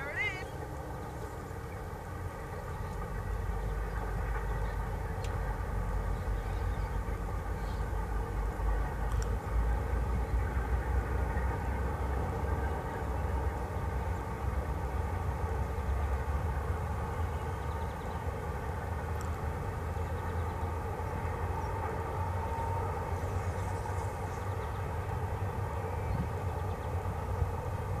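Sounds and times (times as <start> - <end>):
distant freight train rumble: 0.0 - 28.0.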